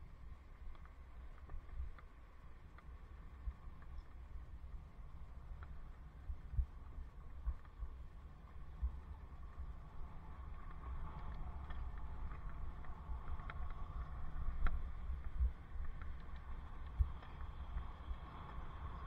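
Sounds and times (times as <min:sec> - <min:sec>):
faint steady hum: 0:00.0 - 0:19.0
wind rumbling on microphone: 0:00.0 - 0:19.0.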